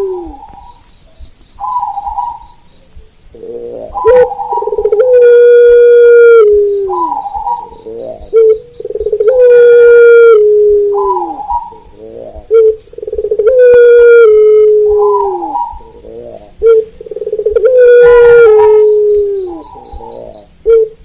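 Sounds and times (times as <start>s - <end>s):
doves cooing: 0.0s - 21.0s.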